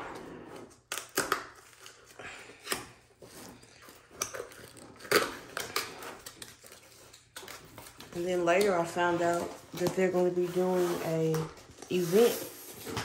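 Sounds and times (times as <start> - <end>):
plastic wrap rustling: 0.7 - 13.0.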